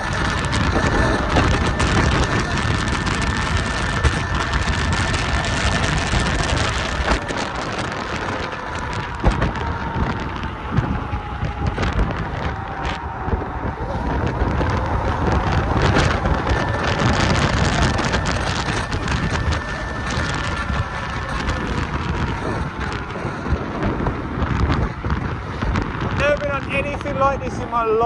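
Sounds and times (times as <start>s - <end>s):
electric motor whine: 0.0s - 26.2s
wind and road noise: 0.0s - 28.0s.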